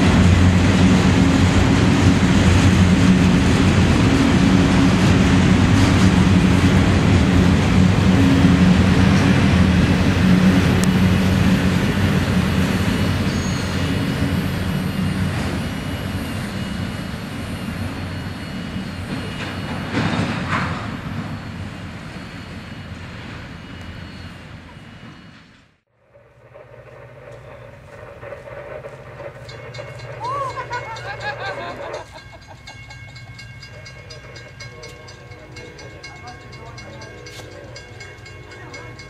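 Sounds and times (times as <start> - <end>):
freight train rumbling on rails: 0.0 - 39.0.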